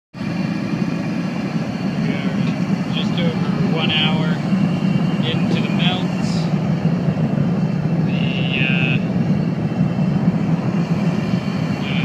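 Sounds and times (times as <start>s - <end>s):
furnace burner roaring: 0.2s - 12.0s.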